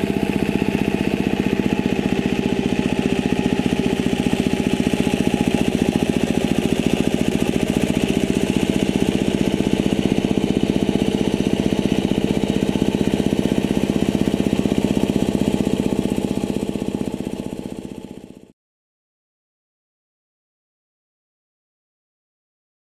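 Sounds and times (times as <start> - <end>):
diesel engine chugging: 0.0 - 18.5.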